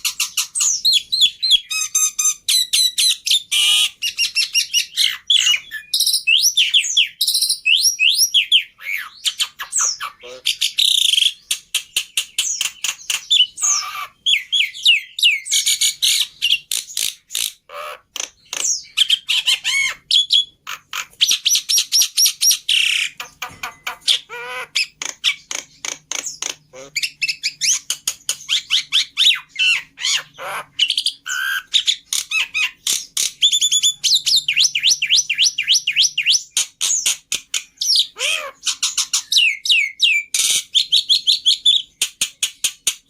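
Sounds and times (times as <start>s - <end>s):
starling singing chirps and whistles: 0.0s - 43.0s.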